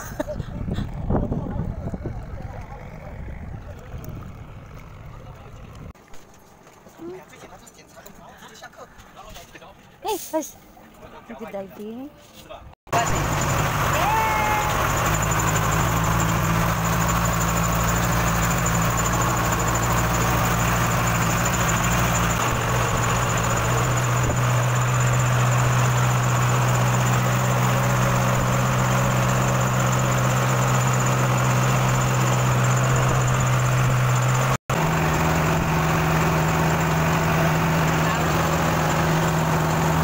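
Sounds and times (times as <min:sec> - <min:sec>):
boat engine droning: 0:00.0 - 0:05.9, 0:12.9 - 0:40.0.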